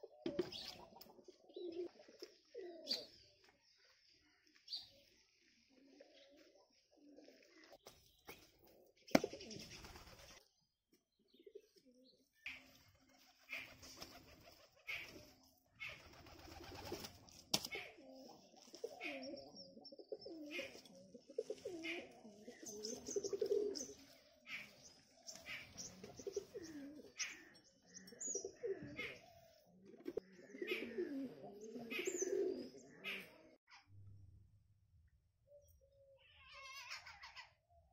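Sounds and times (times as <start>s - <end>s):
doves cooing: 0.0s - 10.4s, 11.4s - 33.6s
small birds chirping: 0.0s - 33.9s.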